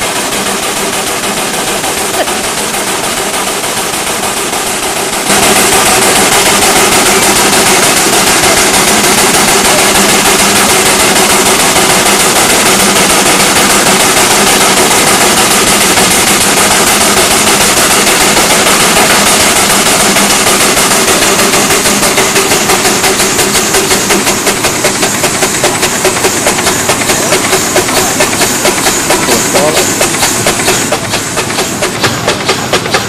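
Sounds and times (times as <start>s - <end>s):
steam engine exhaust chuffing: 0.0s - 33.0s.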